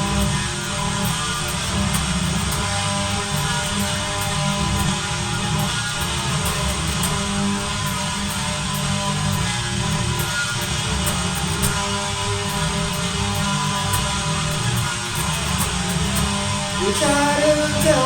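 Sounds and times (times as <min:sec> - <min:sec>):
distorted electric guitar: 0:00.0 - 0:18.0.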